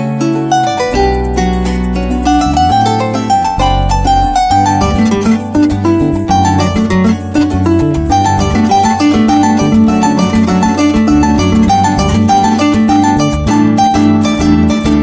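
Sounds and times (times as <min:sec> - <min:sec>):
cuatro strumming: 0:00.0 - 0:15.0
electric bass: 0:00.0 - 0:15.0
harp playing fast plucked runs: 0:00.0 - 0:15.0
maracas: 0:00.0 - 0:15.0.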